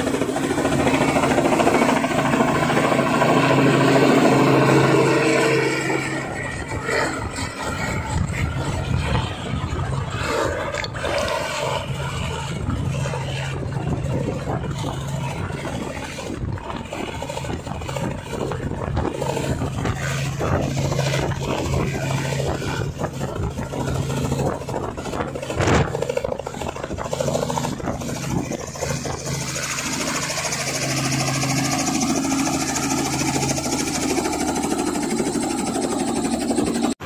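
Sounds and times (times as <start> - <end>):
helicopter rotor and engine drone: 0.0 - 37.0.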